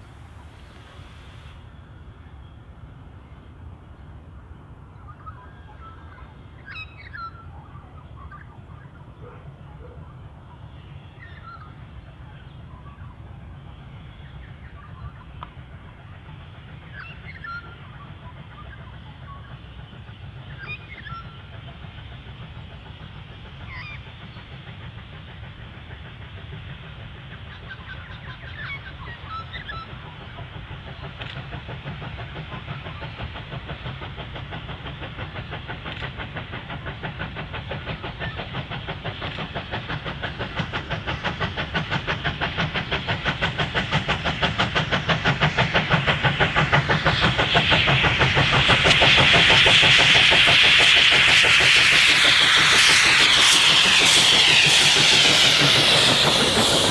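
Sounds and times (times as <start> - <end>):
steam hissing from cylinders: 0.0 - 3.8, 8.6 - 56.9
steam locomotive exhaust beats: 0.0 - 56.9.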